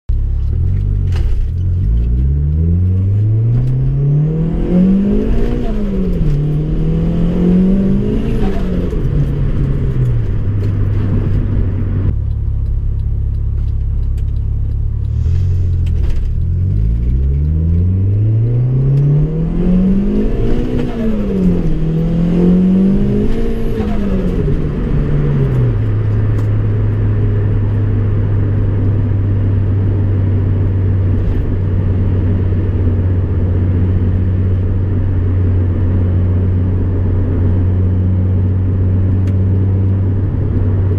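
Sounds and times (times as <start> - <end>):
car engine revving: 0.1 - 40.9.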